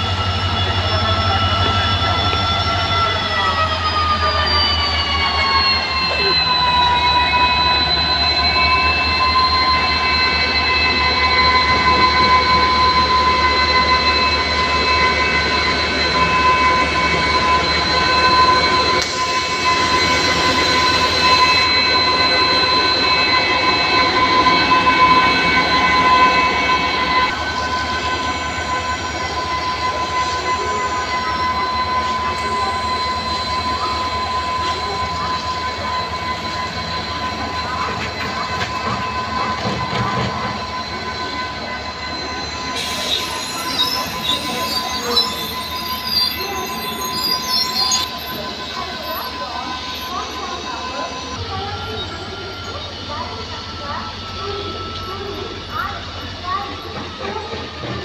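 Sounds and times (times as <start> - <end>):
faint wheel squeals: 0.0 - 58.0
locomotive turbocharger whine: 0.0 - 58.0
wheels rumbling on rail: 0.0 - 58.0.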